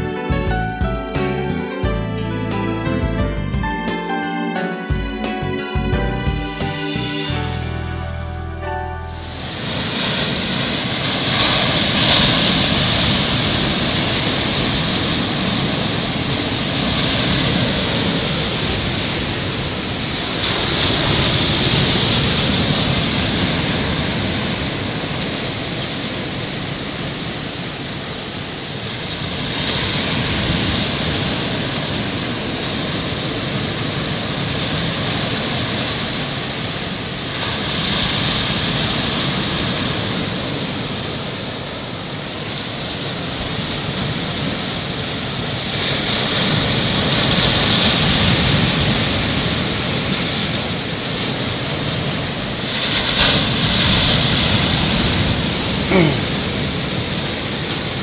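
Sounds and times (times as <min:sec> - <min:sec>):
waves breaking on shore: 0:09.3 - 0:58.0.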